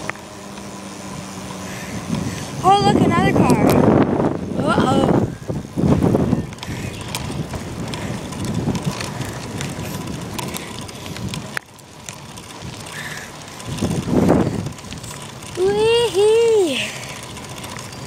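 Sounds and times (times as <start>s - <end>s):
bicycle rattles and clicks: 0.0s - 18.0s
bicycle rolling rumble: 0.0s - 18.0s
wind buffeting microphone: 1.0s - 18.0s.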